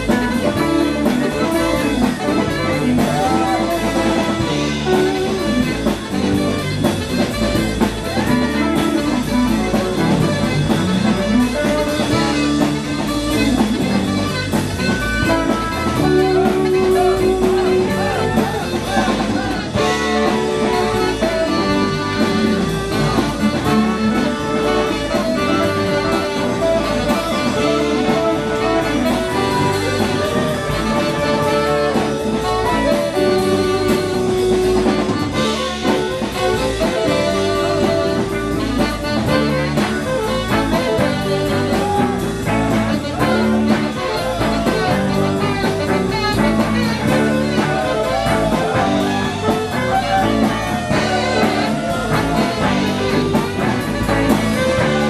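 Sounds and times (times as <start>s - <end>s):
rock band playing: 0.0s - 55.0s
saxophone: 0.0s - 55.0s.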